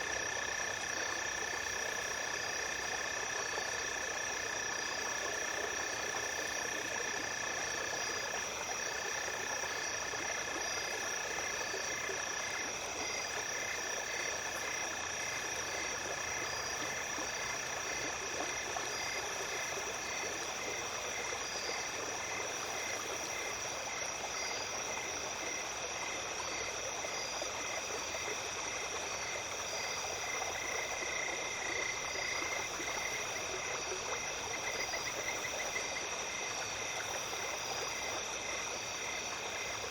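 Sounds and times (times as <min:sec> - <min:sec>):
insects trilling: 0:00.0 - 0:39.9
pulsing insect call: 0:00.0 - 0:39.9
stream running water: 0:00.0 - 0:39.9.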